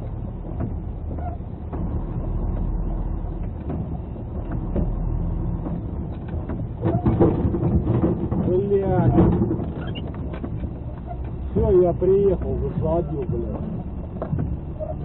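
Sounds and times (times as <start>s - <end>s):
truck engine running: 0.0s - 15.0s
tyre noise on wet road: 0.0s - 15.0s.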